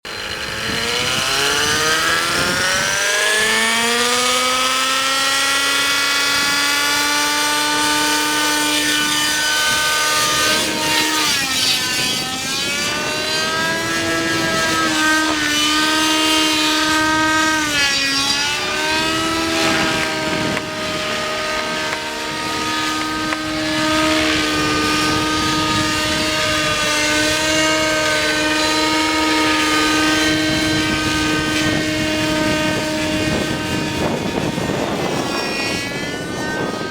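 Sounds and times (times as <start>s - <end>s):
electric motor and rotor whining: 0.0s - 36.9s.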